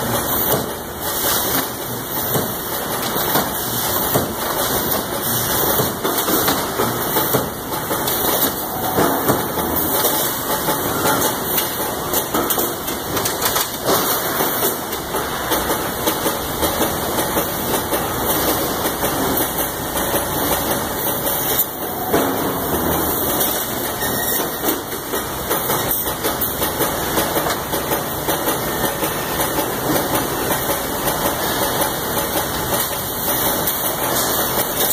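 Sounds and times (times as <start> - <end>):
factory welding machinery noise: 0.0 - 34.9.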